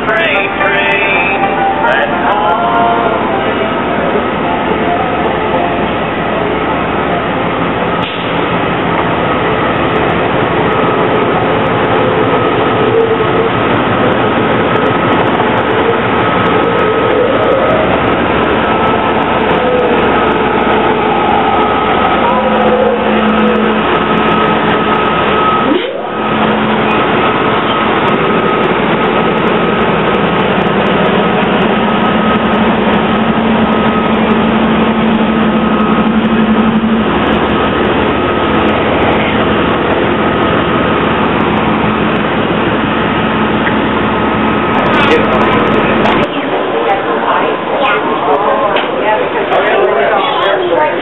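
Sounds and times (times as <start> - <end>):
diesel locomotive engine rumbling: 0.0 - 51.0.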